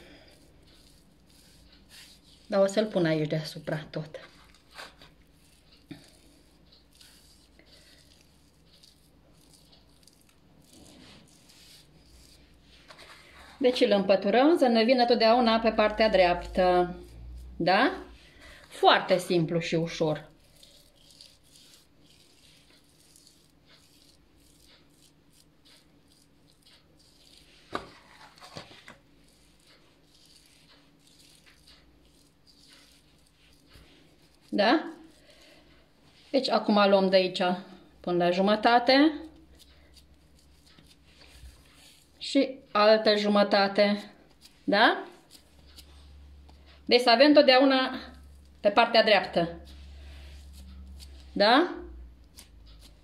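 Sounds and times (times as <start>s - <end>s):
hand spreading lard on dough: 0.0s - 53.0s.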